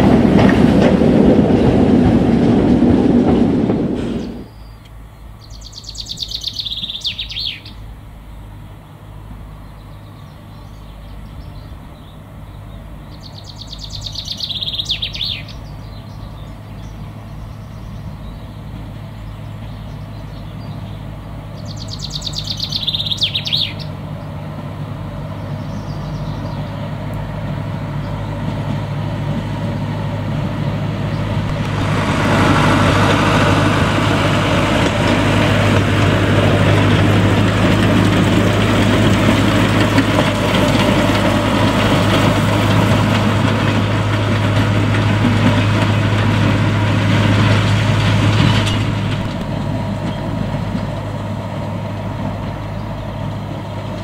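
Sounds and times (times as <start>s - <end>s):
diesel locomotive engine hum: 0.0s - 54.0s.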